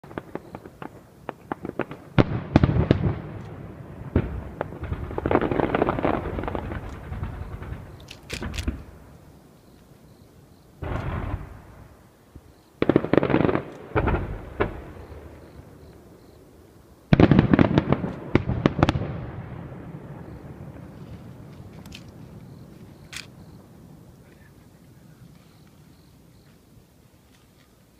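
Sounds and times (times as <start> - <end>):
fireworks bangs and crackles: 0.0 - 9.4, 10.8 - 26.6.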